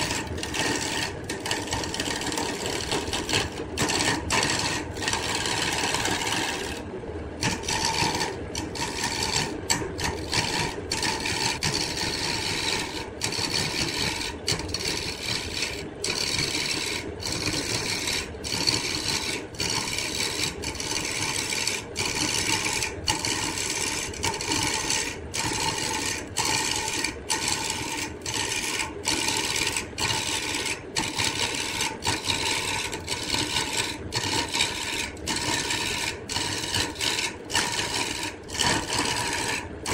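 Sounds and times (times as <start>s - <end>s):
wood lathe tool scraping: 0.0s - 39.9s.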